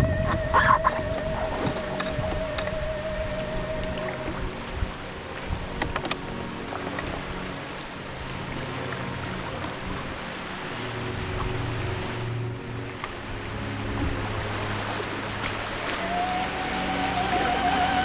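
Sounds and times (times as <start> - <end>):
background music: 0.0 - 18.0
river water rushing: 0.0 - 18.0.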